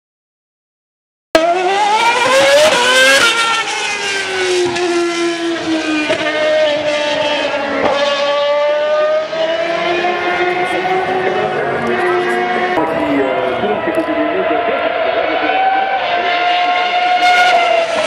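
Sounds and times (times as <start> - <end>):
racing car engine at high revs: 1.4 - 18.0.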